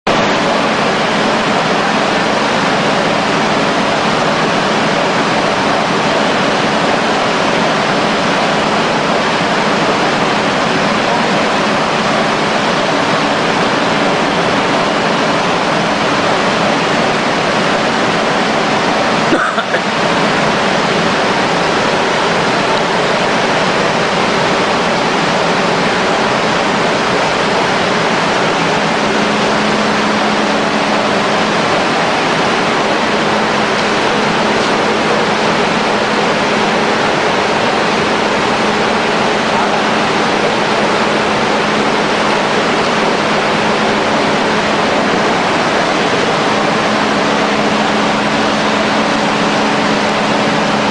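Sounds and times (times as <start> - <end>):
printing press running: 0.0 - 50.9
faint hum: 0.1 - 50.9.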